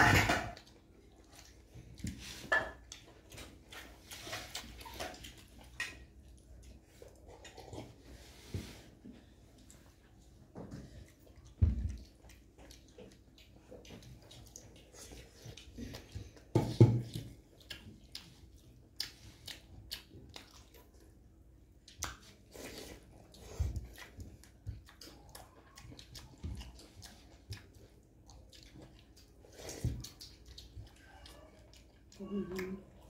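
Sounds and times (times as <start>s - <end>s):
chewing with wet mouth clicks: 0.6s - 8.0s, 10.8s - 33.0s.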